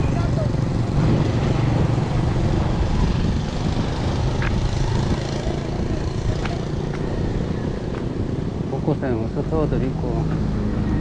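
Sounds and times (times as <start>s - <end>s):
motorcycle engine hum: 0.0s - 11.0s.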